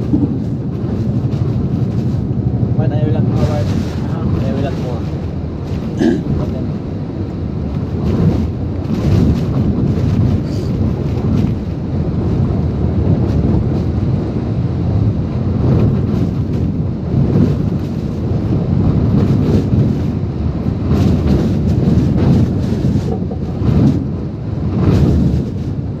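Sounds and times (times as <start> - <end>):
strong wind on microphone: 0.0 - 26.0.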